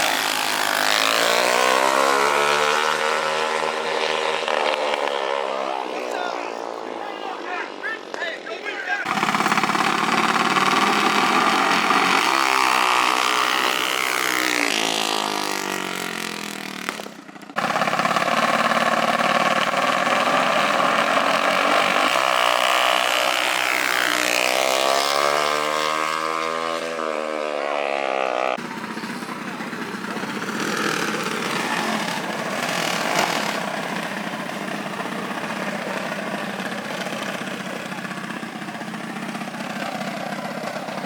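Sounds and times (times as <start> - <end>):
off-road vehicle engines racing: 0.0 - 41.0.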